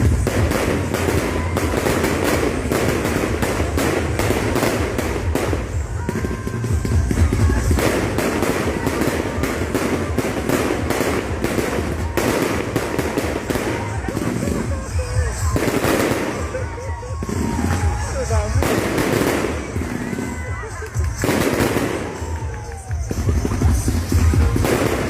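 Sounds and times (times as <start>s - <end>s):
fireworks crackling bangs: 0.0s - 25.0s.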